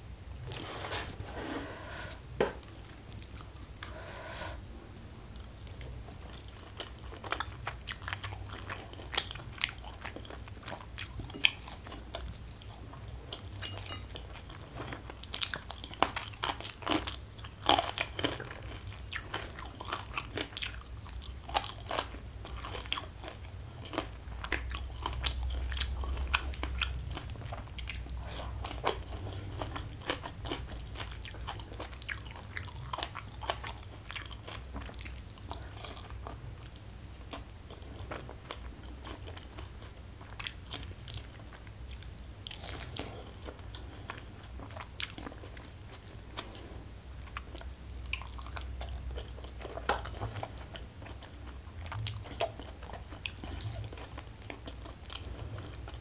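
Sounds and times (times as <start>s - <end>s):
person chewing crisp food: 5.4s - 56.0s.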